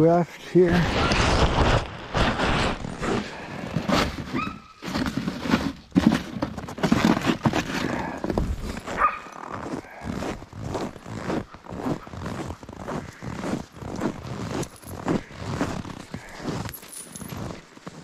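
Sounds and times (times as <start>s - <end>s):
footsteps on hard snow: 1.2s - 18.0s.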